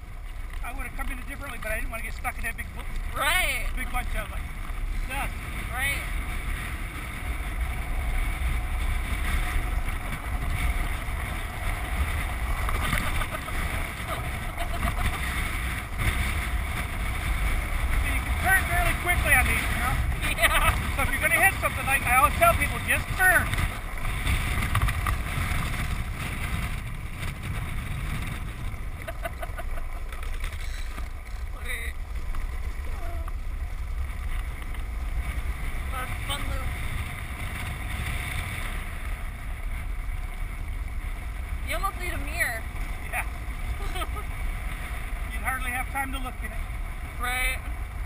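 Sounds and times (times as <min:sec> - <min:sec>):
wheels rumbling: 0:00.0 - 0:48.0
wind buffeting microphone: 0:00.0 - 0:48.0.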